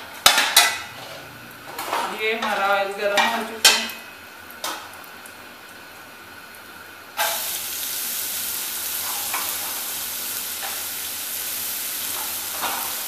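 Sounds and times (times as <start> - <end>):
hot oil hissing: 0.0 - 13.0
cabbage sizzling in hot oil: 1.7 - 13.0.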